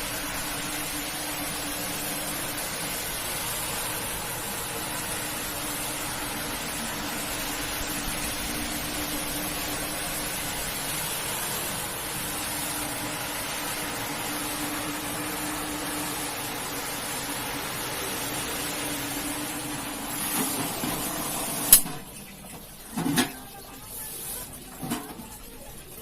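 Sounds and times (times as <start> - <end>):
motor humming: 0.0 - 21.8
pressure washer spraying water: 0.0 - 22.2, 23.5 - 25.7.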